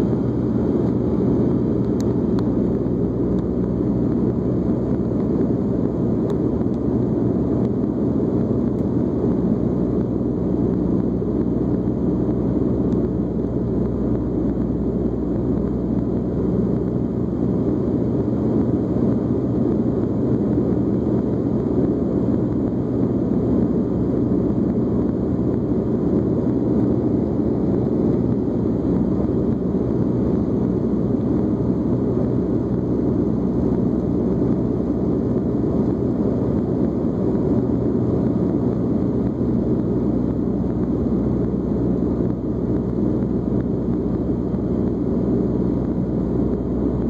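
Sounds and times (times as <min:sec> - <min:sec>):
propeller drone: 0:00.0 - 0:47.0.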